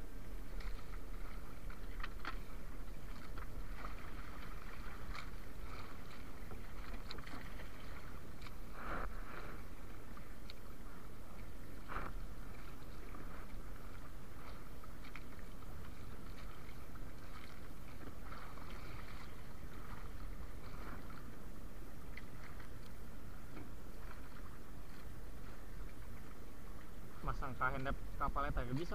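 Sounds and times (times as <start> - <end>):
water lapping against a wooden boat: 0.0 - 28.9.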